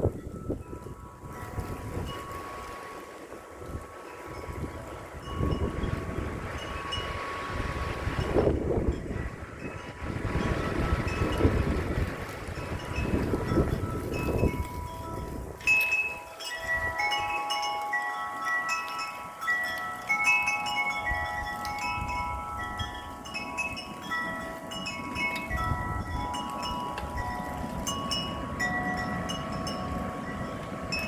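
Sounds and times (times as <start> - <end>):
wind chimes ringing: 0.0 - 31.0
wind rumbling on microphone: 0.0 - 31.0.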